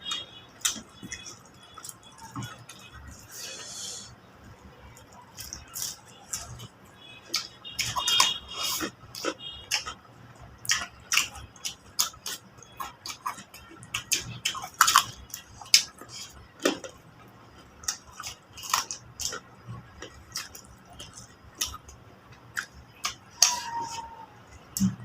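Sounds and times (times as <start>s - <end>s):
people chewing and crunching: 0.0s - 25.0s.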